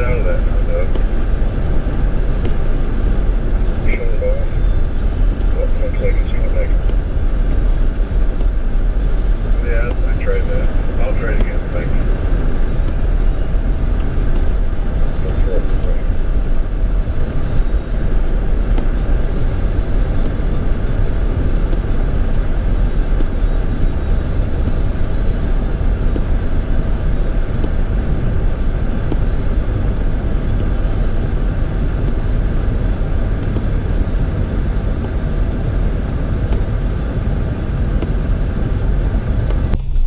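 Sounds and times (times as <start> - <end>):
vehicle engine and tyre noise: 0.0 - 40.0.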